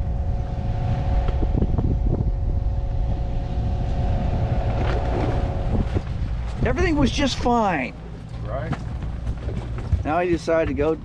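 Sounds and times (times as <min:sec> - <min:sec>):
boat machinery humming: 0:00.0 - 0:11.0
wind buffeting microphone: 0:00.0 - 0:11.0.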